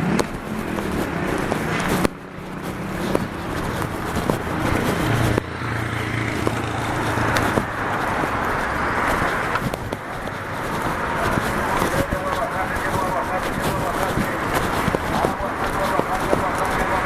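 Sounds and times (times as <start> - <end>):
passing car traffic: 0.0 - 17.0.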